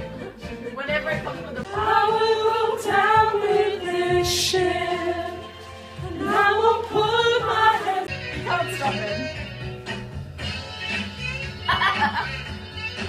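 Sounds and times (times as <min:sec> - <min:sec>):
backing track music: 0:00.0 - 0:13.0.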